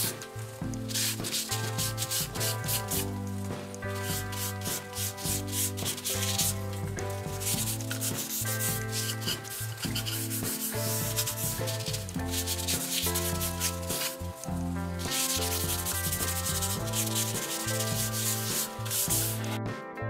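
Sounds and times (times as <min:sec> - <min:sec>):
background music with held notes: 0:00.0 - 0:20.0
cloth rubbing on plywood: 0:00.9 - 0:19.6.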